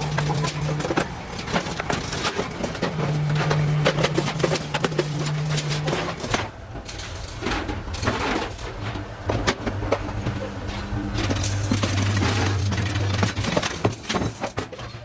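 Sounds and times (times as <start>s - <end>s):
lower machine hum: 0.0s - 7.0s, 7.6s - 13.9s
low machine hum: 0.0s - 13.9s.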